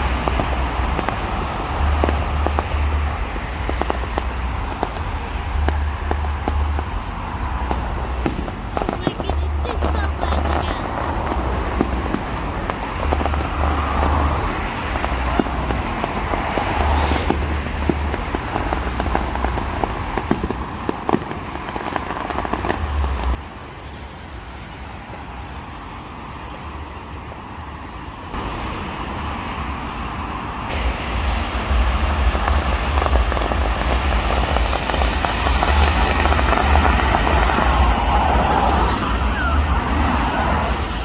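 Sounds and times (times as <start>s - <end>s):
fireworks popping and crackling: 0.0s - 23.4s, 28.3s - 30.0s, 30.7s - 41.0s
low outdoor rumble: 0.0s - 41.0s.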